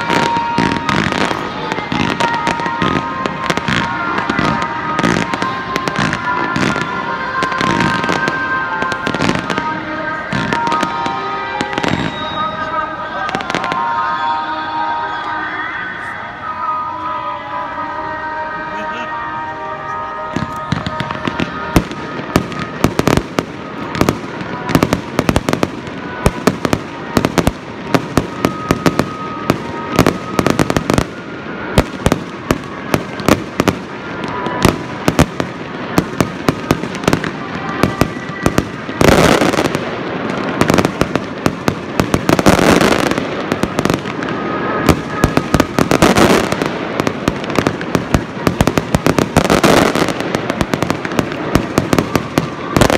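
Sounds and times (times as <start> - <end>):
fireworks bangs: 0.0 - 15.2, 18.8 - 52.9
fireworks crackling: 0.0 - 16.8, 18.6 - 52.9.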